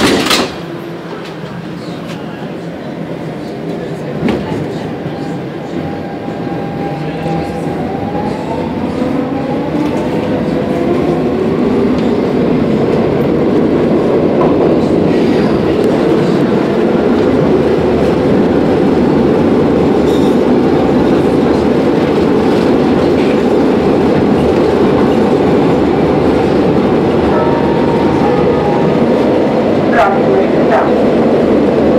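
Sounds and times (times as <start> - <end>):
wheels rumbling on rails: 3.4 - 31.9.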